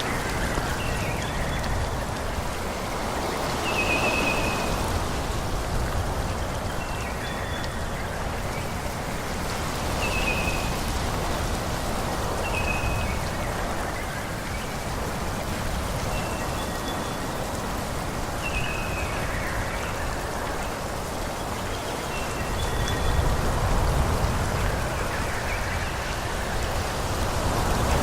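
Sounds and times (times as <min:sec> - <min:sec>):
wind rushing through trees: 0:00.0 - 0:28.0.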